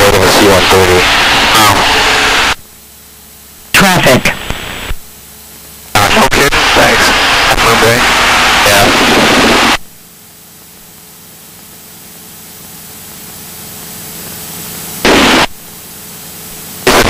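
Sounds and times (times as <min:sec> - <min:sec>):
faint steady hum: 0:00.0 - 0:17.0
radio static hiss: 0:00.0 - 0:17.0.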